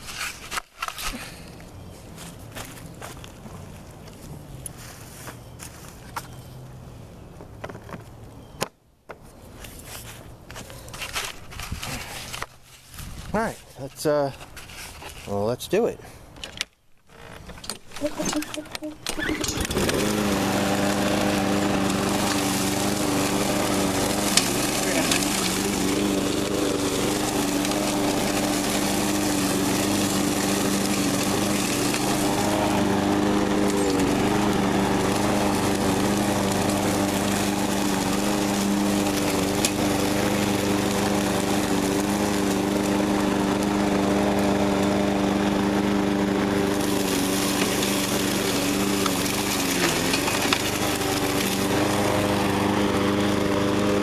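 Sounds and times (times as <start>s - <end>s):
lawn mower mowing leaves: 0.0s - 6.9s, 9.8s - 15.9s, 17.1s - 54.0s.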